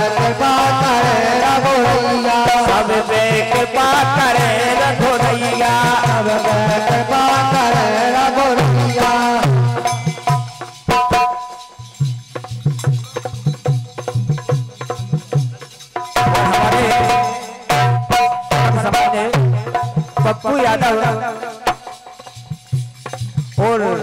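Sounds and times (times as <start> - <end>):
hand drum beat: 0.0 - 24.0
sharp percussion strokes: 0.0 - 24.0.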